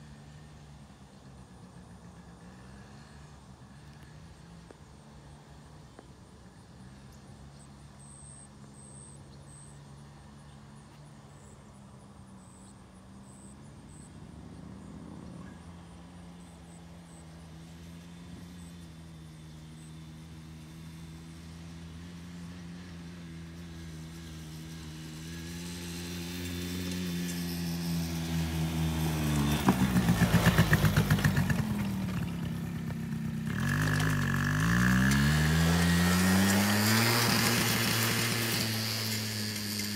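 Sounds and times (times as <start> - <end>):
distant atv engine running: 0.0 - 39.9.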